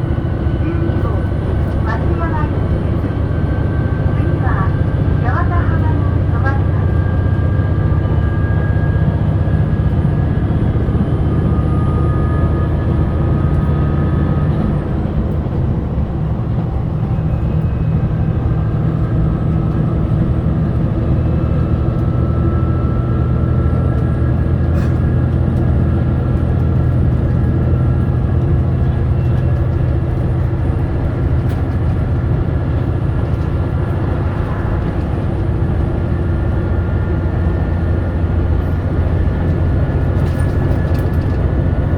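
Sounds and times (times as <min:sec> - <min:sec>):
diesel railcar engine rumble: 0:00.0 - 0:41.9.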